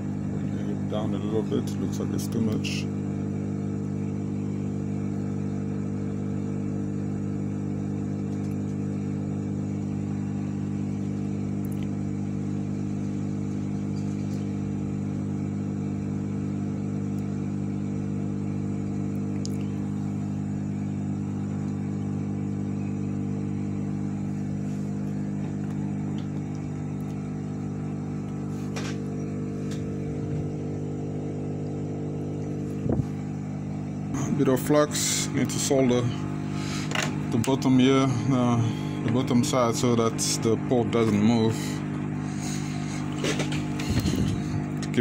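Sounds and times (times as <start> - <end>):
hot air blower humming: 0.0 - 45.0.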